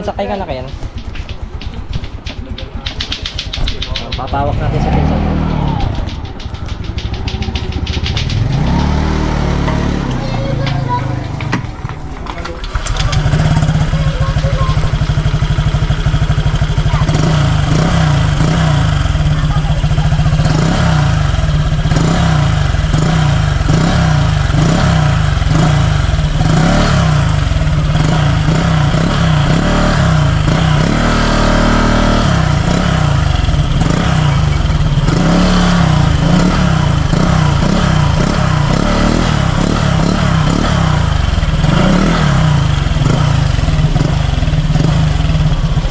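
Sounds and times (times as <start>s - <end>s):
scooter engine running: 0.0s - 45.9s.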